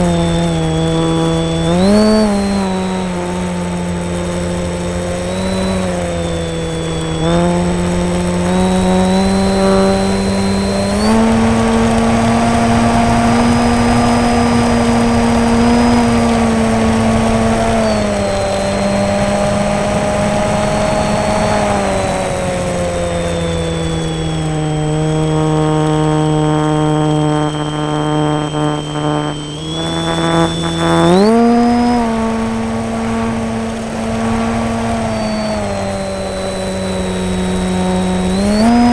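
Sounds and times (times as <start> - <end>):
model plane motor whine: 0.0 - 38.9.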